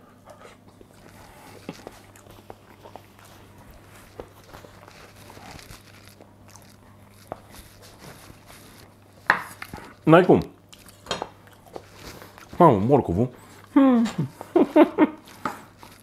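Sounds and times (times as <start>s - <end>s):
faint low hum: 0.0s - 16.0s
person chewing food: 0.2s - 12.6s, 13.4s - 16.0s.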